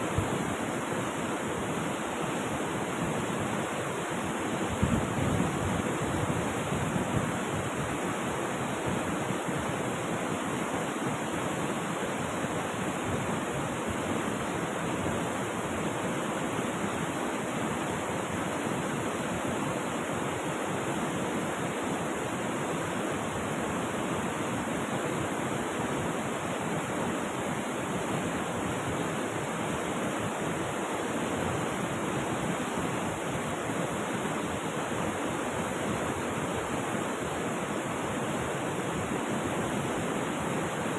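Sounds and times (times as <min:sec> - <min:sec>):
rushing river water: 0:00.0 - 0:40.9.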